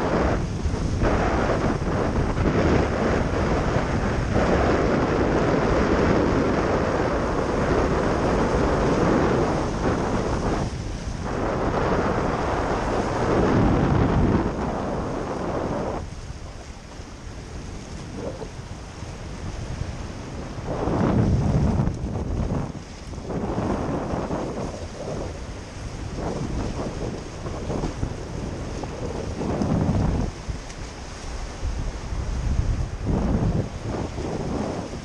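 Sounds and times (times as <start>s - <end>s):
ocean surf washing around rocks: 0.0s - 35.0s
wind buffeting microphone: 0.0s - 35.0s.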